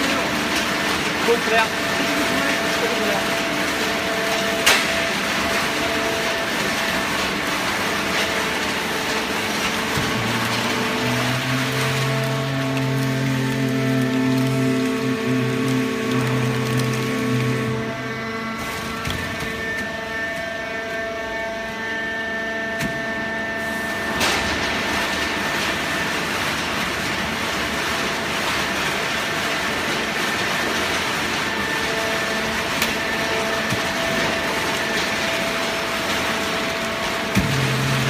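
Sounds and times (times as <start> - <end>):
paper baler machine hum: 0.0 - 38.0.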